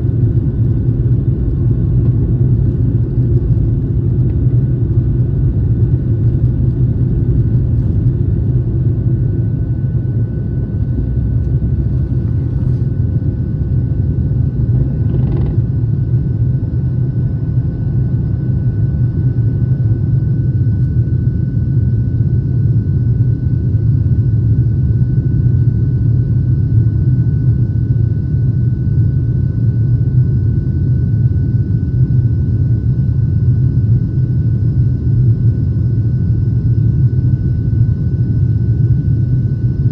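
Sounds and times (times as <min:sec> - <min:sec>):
airliner cabin engine rumble: 0:00.0 - 0:39.9
faint steady whines: 0:00.0 - 0:39.9.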